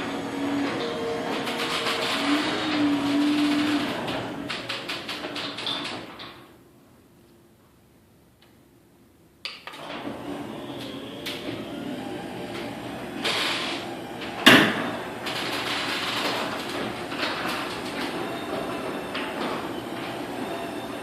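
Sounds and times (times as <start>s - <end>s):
garage door opener clunk: 0.0s - 6.5s, 9.7s - 21.0s
garage door opener whine and rattle: 0.0s - 6.6s, 9.6s - 21.0s.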